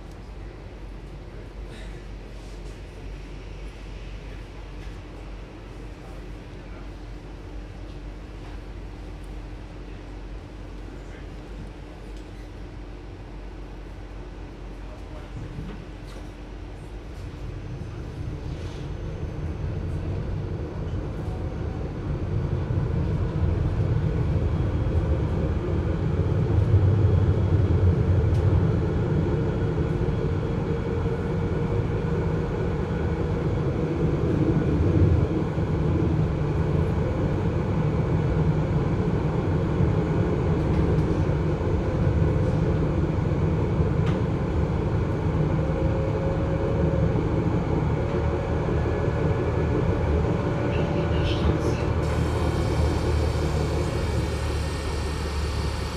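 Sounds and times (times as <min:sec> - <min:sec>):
muffled tram hum and whine: 0:00.0 - 0:55.9.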